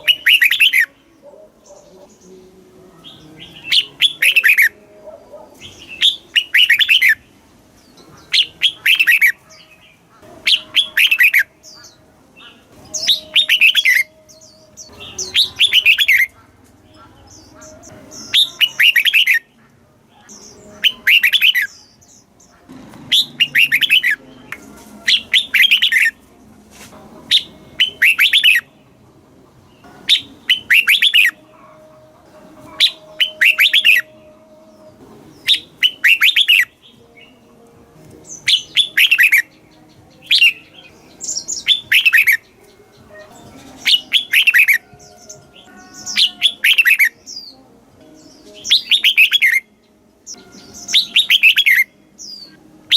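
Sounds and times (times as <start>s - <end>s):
bird singing: 0.0s - 26.4s, 27.2s - 52.9s.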